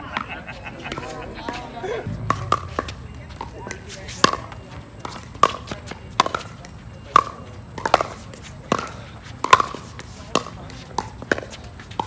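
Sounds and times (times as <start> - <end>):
paddles hitting plastic ball: 2.2 - 12.0.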